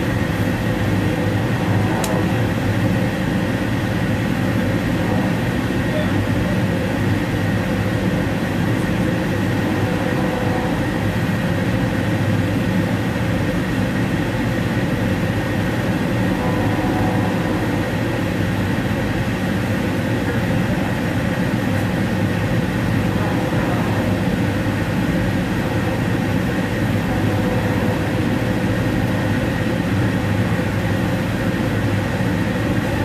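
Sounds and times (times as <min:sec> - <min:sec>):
steady low hum: 0:00.0 - 0:33.0
train wheels on rail: 0:00.0 - 0:33.0.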